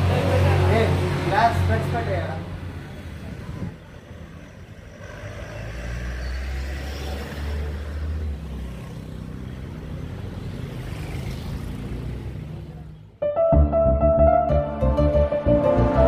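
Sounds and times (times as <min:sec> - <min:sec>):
road noise: 0:00.0 - 0:13.5.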